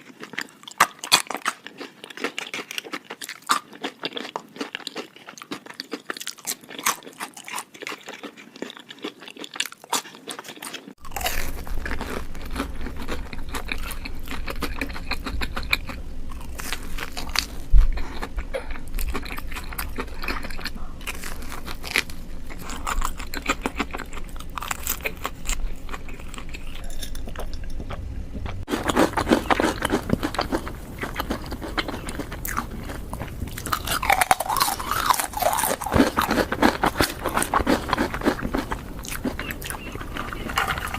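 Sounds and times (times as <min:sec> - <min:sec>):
crunchy bites and chewing: 0:00.0 - 0:28.0, 0:28.6 - 0:40.9.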